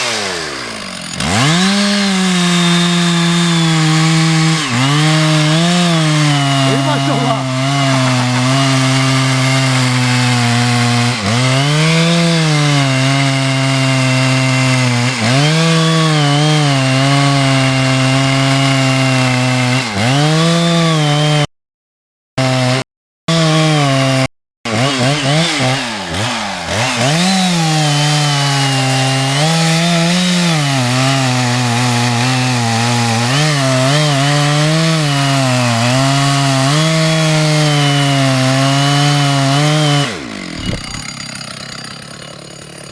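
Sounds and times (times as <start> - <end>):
chainsaw cutting through timber: 0.0 - 21.5, 22.4 - 42.9.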